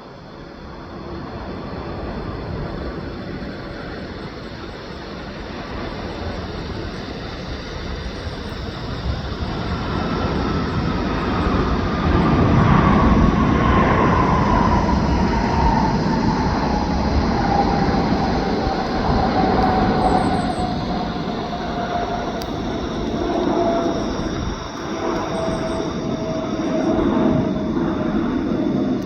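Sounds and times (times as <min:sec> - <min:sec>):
jet engines at takeoff power: 0:00.0 - 0:29.0
engine whine falling in pitch: 0:05.2 - 0:29.0.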